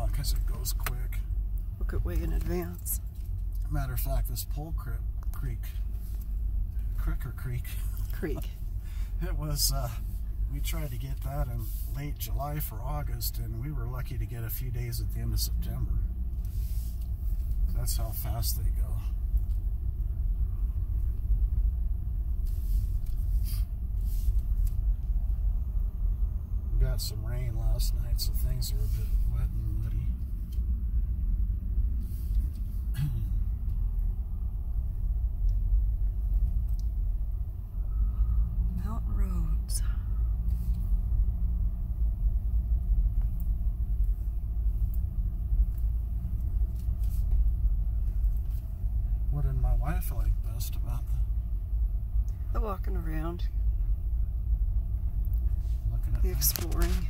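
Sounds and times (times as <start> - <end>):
car engine and road noise: 0.0 - 57.0
vehicle rumble from inside cabin: 0.0 - 57.0.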